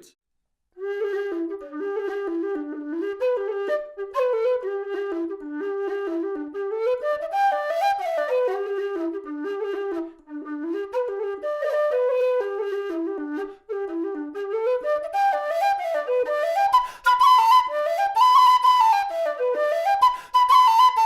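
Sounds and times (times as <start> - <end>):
low whistle playing melody: 0.8 - 21.0.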